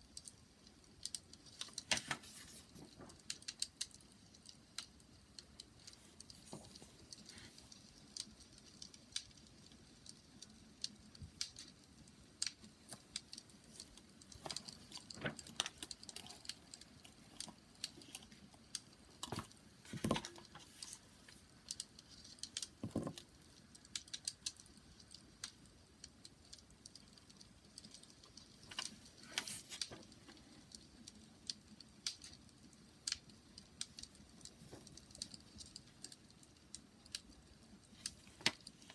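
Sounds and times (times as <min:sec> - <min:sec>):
faint low hiss: 0:00.0 - 0:38.9
wood bonfire crackling: 0:00.0 - 0:38.9.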